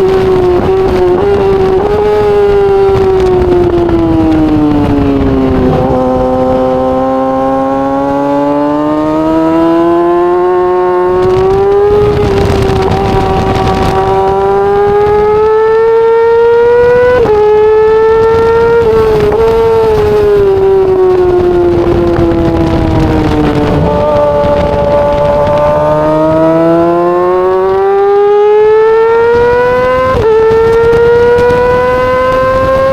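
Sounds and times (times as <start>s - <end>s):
motorcycle engine revving high: 0.0s - 32.9s.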